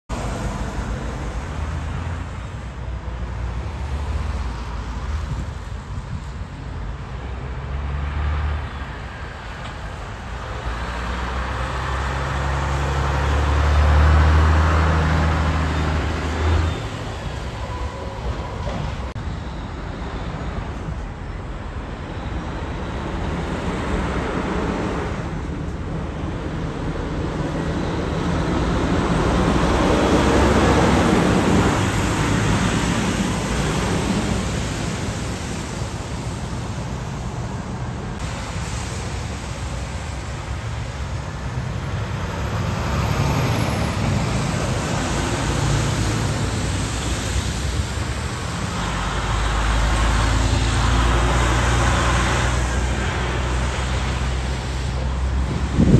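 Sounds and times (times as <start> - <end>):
truck diesel engine drone: 0.1 - 55.9
tyres hissing on wet road: 0.1 - 55.9.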